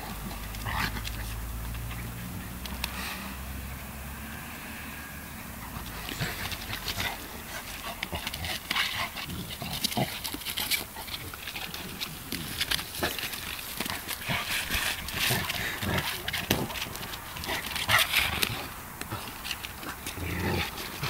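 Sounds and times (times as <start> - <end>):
dogs play-fighting: 0.0 - 2.9, 5.6 - 21.0.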